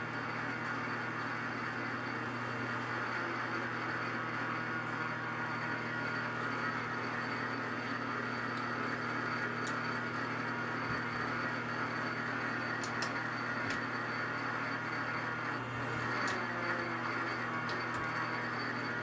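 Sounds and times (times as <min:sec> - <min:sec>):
metal lathe motor hum: 0:00.0 - 0:19.0.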